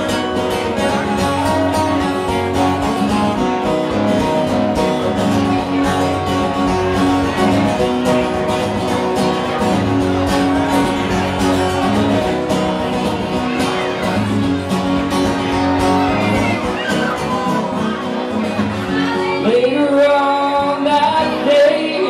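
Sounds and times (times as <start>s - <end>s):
acoustic guitars strumming: 0.0s - 22.0s.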